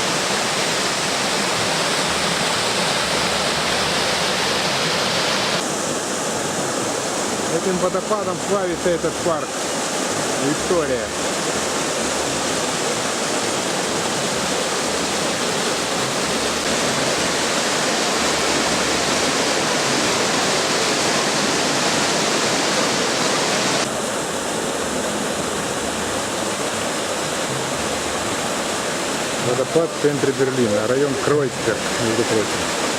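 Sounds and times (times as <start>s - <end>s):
waterfall rushing over rocks: 0.0s - 32.9s.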